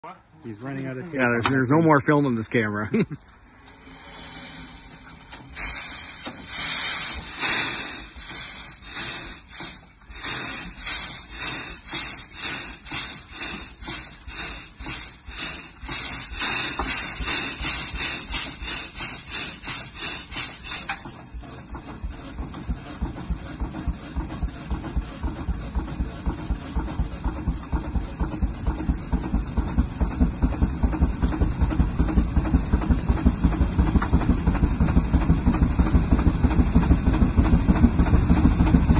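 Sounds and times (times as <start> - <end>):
steam engine exhaust beats: 1.2 - 38.9
steam hiss: 3.5 - 38.9.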